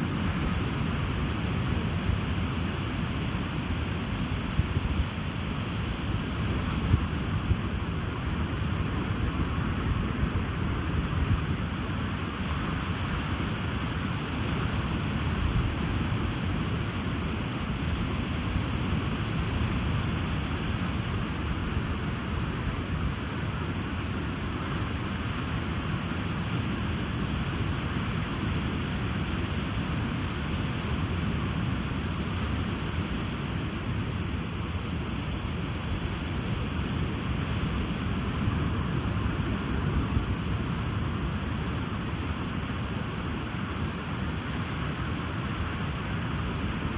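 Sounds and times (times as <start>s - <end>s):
ocean surf: 0.0s - 46.9s
wind: 0.0s - 46.9s.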